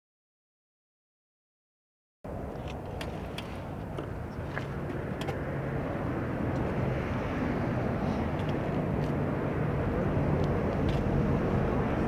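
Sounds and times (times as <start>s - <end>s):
vehicle rumble: 2.3s - 12.0s.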